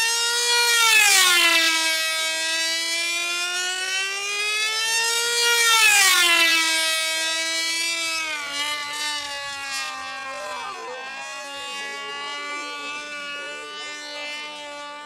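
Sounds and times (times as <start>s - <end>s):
model engine at high revs: 0.0s - 15.0s.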